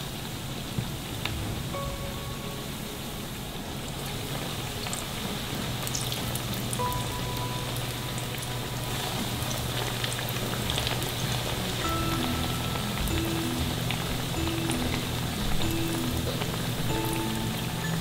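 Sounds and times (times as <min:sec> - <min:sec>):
batter frying in hot oil: 0:00.0 - 0:18.0.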